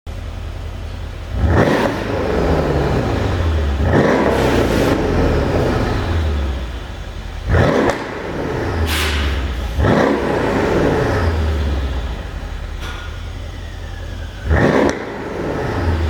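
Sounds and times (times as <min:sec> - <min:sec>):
car engine idling and revving: 0:00.1 - 0:16.0
exhaust pops and crackles: 0:01.3 - 0:16.0.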